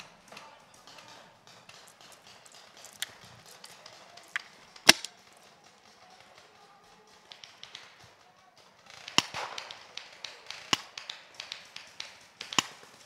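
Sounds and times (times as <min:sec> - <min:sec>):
paintball markers firing: 0:00.0 - 0:13.0.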